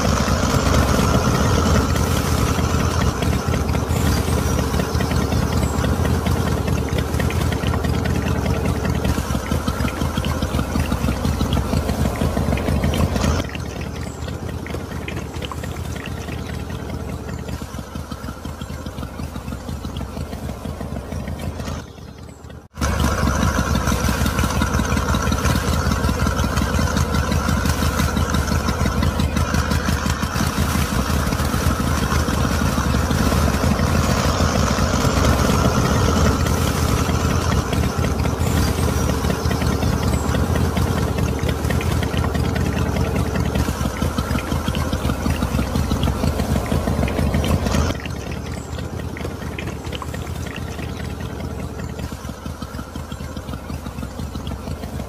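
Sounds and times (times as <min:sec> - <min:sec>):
model engine rattling and humming: 0:00.0 - 0:55.0.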